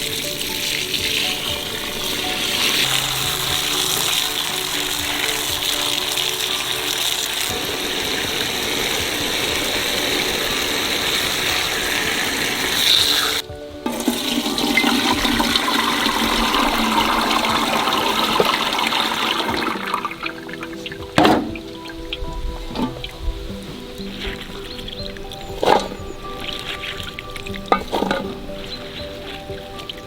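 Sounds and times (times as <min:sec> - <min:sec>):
water running: 0:00.0 - 0:30.0.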